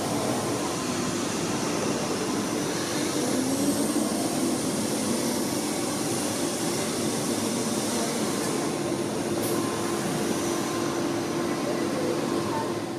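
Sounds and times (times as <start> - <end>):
vacuum cleaner running: 0.0 - 12.9.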